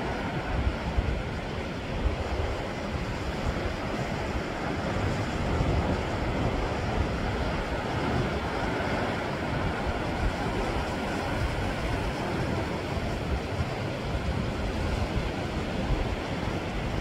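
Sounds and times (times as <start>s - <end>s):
waves washing over rocky shore: 0.0s - 17.0s
wind buffeting microphone: 0.0s - 17.0s.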